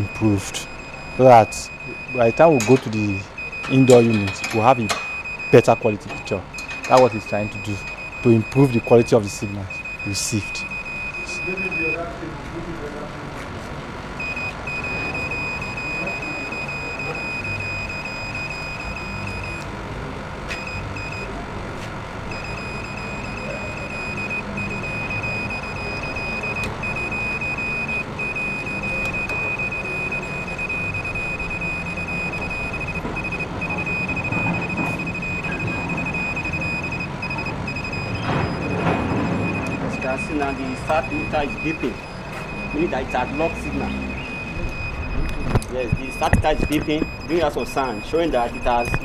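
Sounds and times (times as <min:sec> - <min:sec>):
meter beeping: 0:00.0 - 0:12.2, 0:14.1 - 0:19.8, 0:20.5 - 0:21.5, 0:22.2 - 0:49.0.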